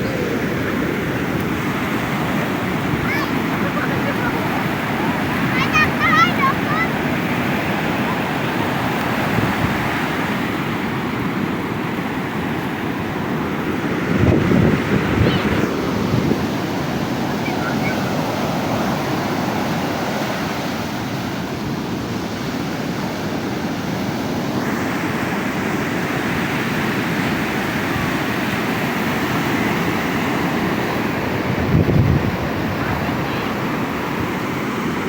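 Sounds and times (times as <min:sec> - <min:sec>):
ocean surf washing onto beach: 0:00.0 - 0:35.0.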